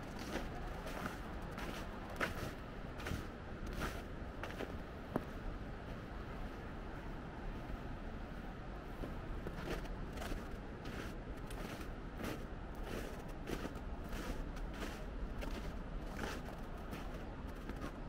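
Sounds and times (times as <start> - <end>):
footsteps in snow: 0.1 - 6.1, 9.0 - 18.0.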